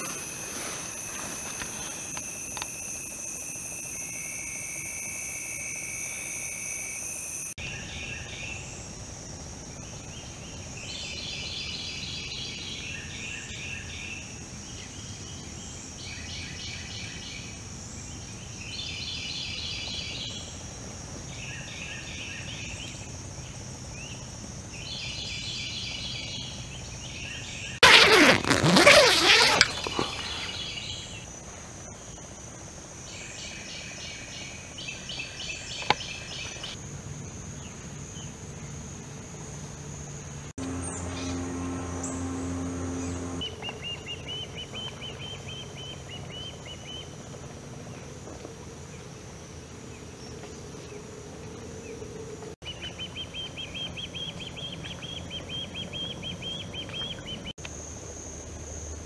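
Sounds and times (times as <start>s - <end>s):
high insect drone: 0.0s - 47.8s, 57.6s - 59.0s
night insects chirring: 0.0s - 56.7s, 57.4s - 59.0s.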